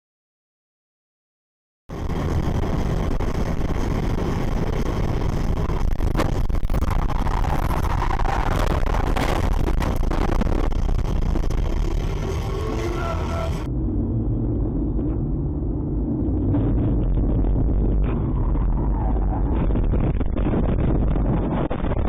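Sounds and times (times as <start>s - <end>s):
car road and engine noise: 1.9s - 22.0s.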